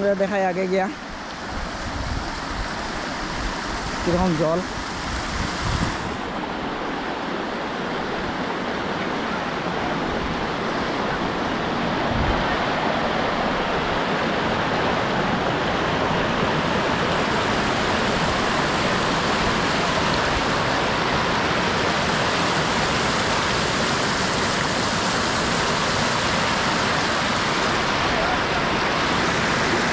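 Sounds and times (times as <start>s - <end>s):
stream rushing in rapids: 0.0s - 29.9s.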